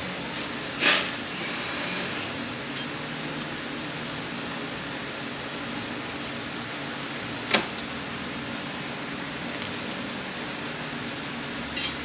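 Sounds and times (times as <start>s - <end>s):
fan-like hum and hiss: 0.0s - 12.0s.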